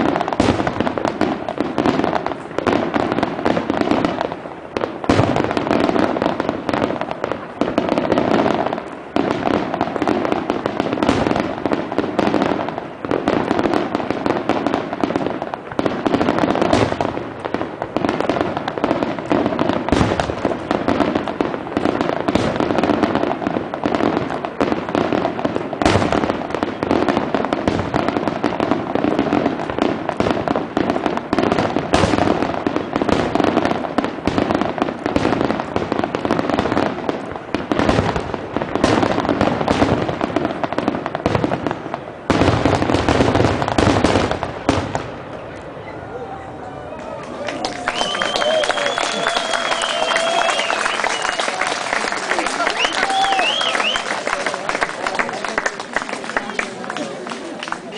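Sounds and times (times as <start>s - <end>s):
firework shells bursting: 0.0s - 45.3s, 47.6s - 54.7s
fireworks crackle: 0.0s - 57.9s.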